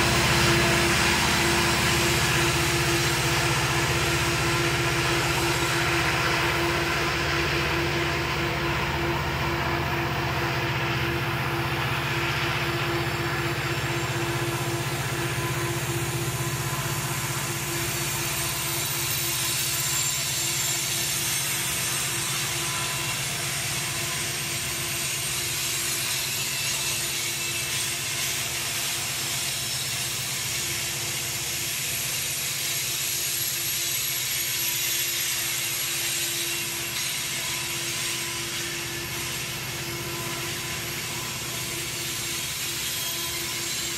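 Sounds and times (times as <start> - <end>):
diesel locomotives droning: 0.0 - 43.9
train wheels on rails: 0.0 - 43.9.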